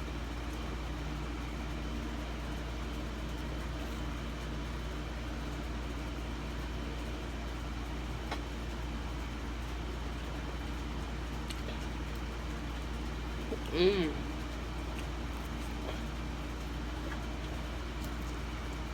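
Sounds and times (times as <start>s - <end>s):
low hum with hiss: 0.0s - 18.9s.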